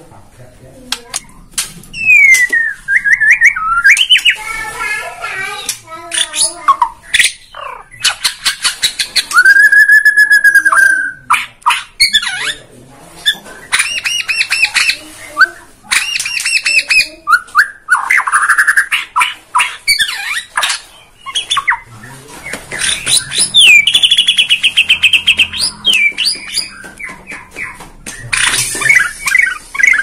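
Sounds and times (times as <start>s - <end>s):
bird singing trills and whistles: 1.9s - 4.4s, 5.6s - 12.6s, 13.2s - 30.0s.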